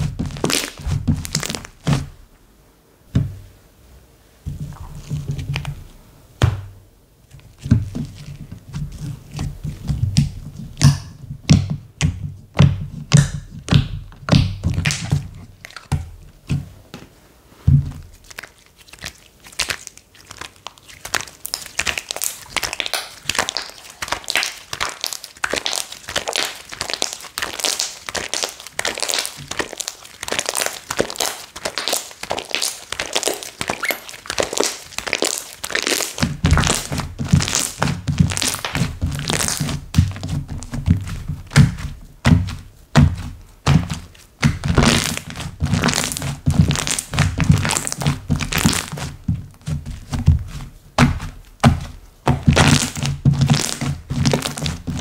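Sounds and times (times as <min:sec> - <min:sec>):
hands squishing slime: 0:00.0 - 0:02.2, 0:07.4 - 0:16.9, 0:17.8 - 0:55.0.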